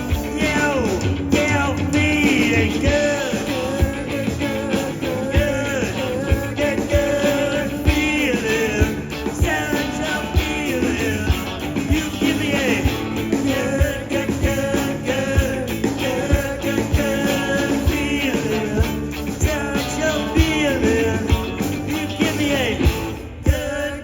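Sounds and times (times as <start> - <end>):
blues-rock band playing: 0.0 - 24.0.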